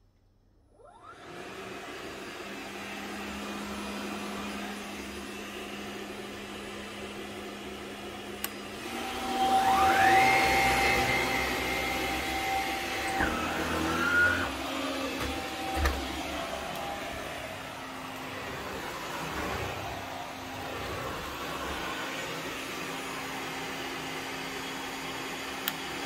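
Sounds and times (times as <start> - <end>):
vacuum cleaner motor humming: 0.7 - 26.0.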